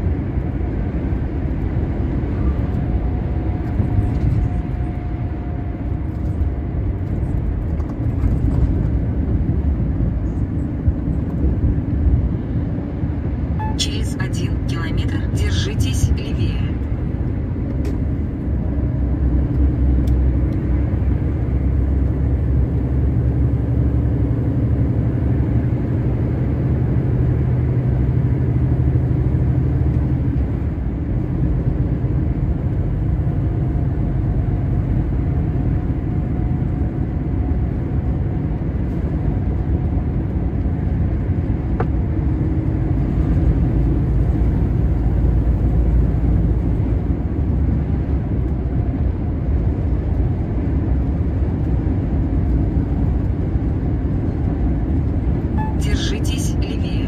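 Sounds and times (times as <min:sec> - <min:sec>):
tyre and road noise: 0:00.0 - 0:55.8
diesel engine rumble: 0:00.0 - 0:57.0.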